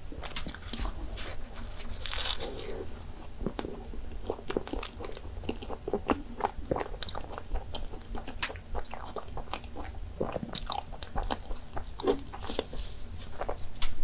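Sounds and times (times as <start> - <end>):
wet chewing: 0.2 - 13.9.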